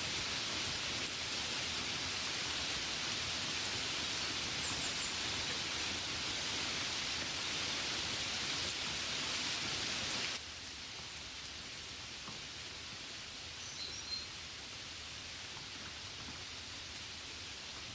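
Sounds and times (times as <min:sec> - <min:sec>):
gentle rain falling: 0:00.0 - 0:17.9.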